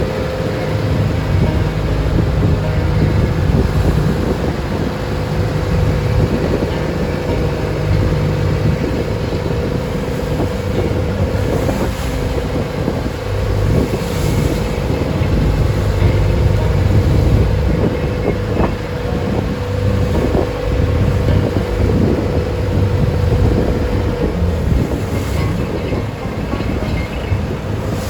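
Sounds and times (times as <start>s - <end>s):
boat engine running: 0.0s - 28.0s
waves splashing against hull: 0.0s - 28.0s
wind buffeting microphone: 0.0s - 28.0s.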